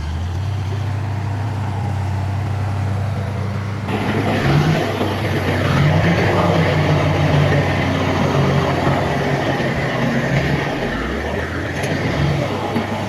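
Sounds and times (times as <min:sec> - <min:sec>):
dense rattling clatter: 0:00.0 - 0:13.0
diesel machinery engine drone: 0:00.0 - 0:13.0.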